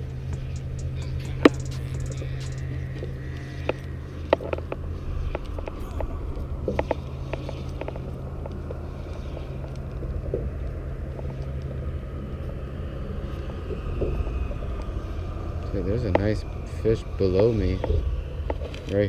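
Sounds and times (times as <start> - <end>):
faint tyre whine: 0.0 - 19.0
road traffic drone: 0.0 - 19.0.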